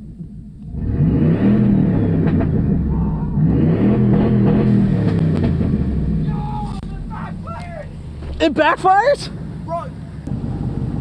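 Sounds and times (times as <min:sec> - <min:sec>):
unmuffled truck engine revving: 0:00.0 - 0:11.0.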